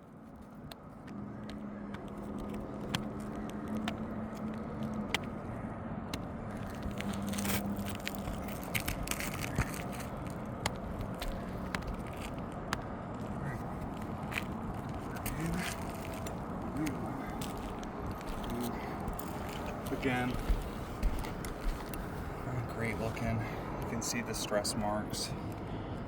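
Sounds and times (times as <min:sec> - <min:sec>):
shingles crackling and scraping: 0:00.0 - 0:24.2.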